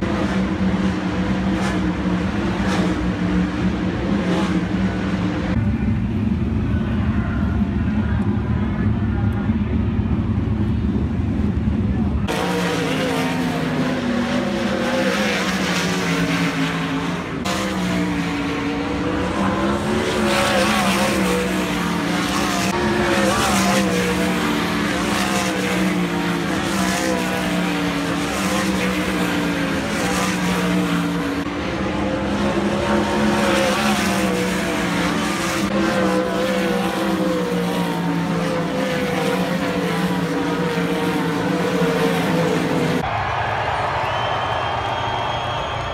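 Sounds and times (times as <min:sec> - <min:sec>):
race car engines: 0:00.0 - 0:45.9.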